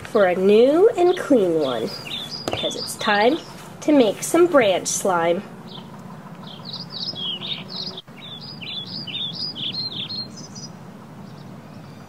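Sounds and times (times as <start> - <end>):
bird chirping: 0.1 - 12.0.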